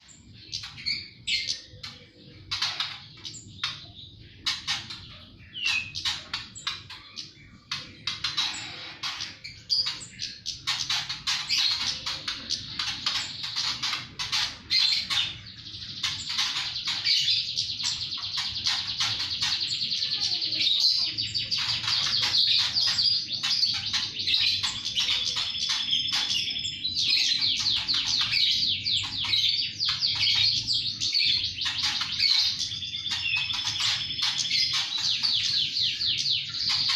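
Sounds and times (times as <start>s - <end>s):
bird rapid high chirps: 0.0s - 36.9s.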